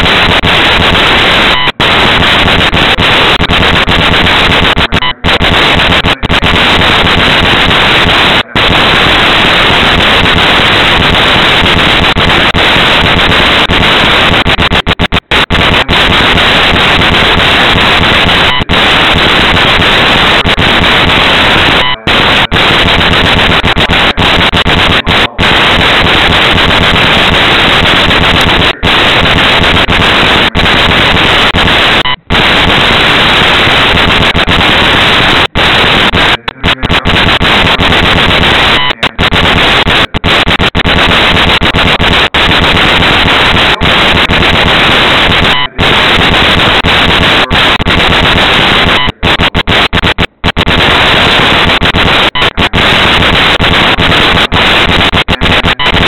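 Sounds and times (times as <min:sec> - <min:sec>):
loud crackling static: 0:00.0 - 0:56.0.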